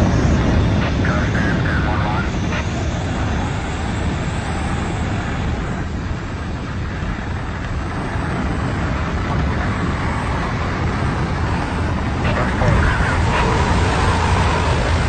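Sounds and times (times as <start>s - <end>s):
airplane engine drone: 0.0s - 15.0s
rushing air: 0.0s - 15.0s.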